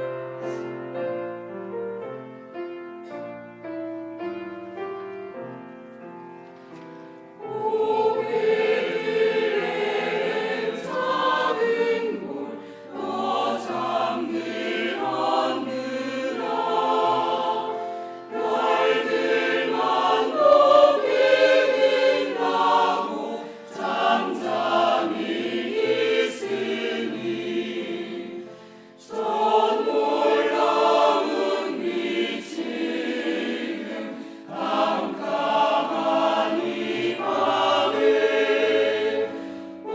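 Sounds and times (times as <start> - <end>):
choir singing: 7.0 - 39.9.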